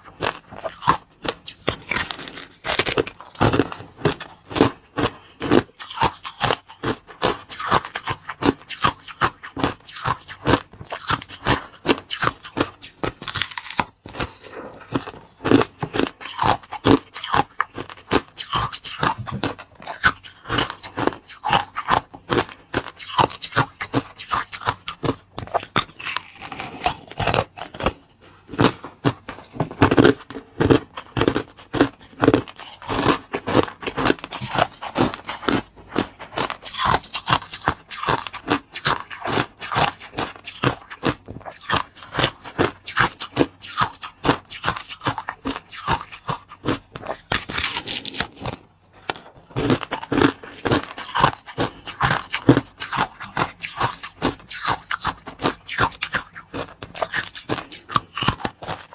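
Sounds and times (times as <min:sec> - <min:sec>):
chewing crunchy food: 0:00.0 - 0:58.9.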